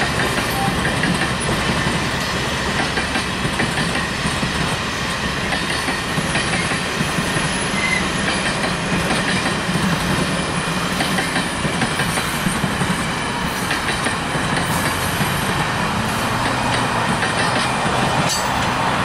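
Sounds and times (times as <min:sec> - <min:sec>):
rail clicks: 0:00.0 - 0:19.0
train wheels rumbling on rail: 0:00.0 - 0:19.0.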